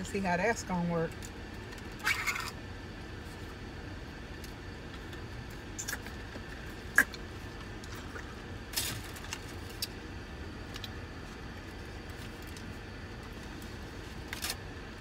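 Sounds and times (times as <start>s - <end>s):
low hum of car cabin: 0.0s - 15.0s.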